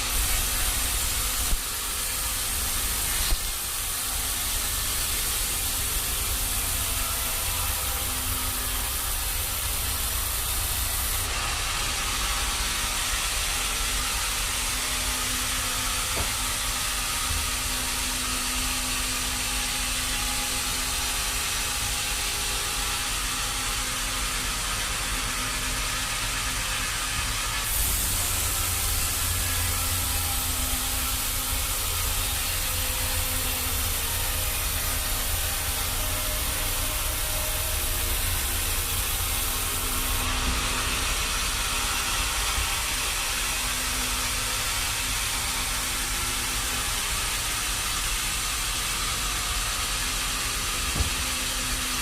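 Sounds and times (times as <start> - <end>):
sawmill machinery hiss and rumble: 0.0 - 52.0.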